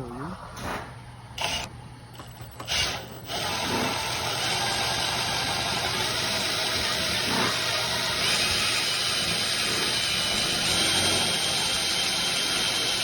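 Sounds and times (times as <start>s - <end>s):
drill cutting metal: 1.4s - 13.0s.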